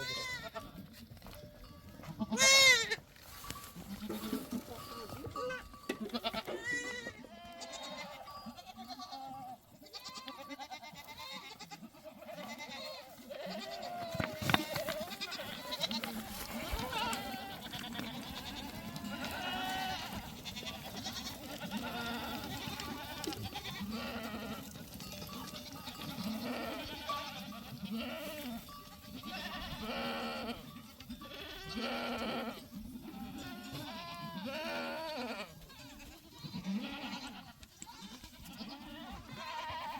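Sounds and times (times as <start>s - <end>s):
goats bleating: 0.0s - 39.9s.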